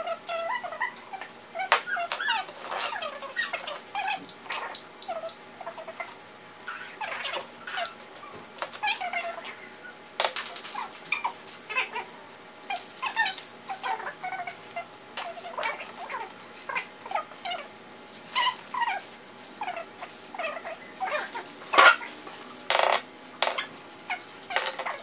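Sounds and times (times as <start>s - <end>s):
small animal whimpering: 0.0s - 10.0s, 10.7s - 17.7s, 18.3s - 22.2s.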